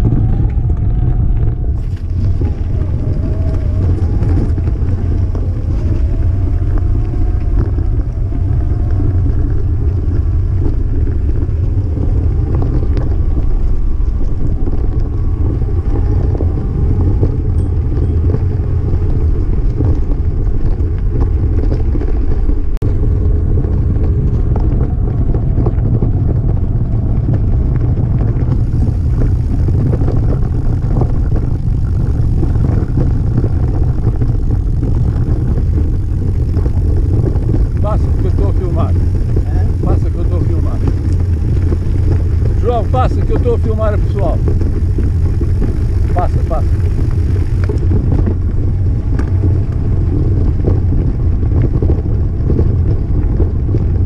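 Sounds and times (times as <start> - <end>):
riding vibration: 0.0 - 54.0
tyres rolling over gravel: 0.0 - 54.0
wind buffeting: 0.0 - 54.0.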